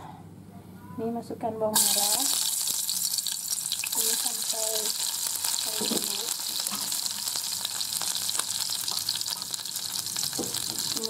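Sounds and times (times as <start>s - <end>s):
shallots sizzling in hot oil: 1.8s - 11.0s.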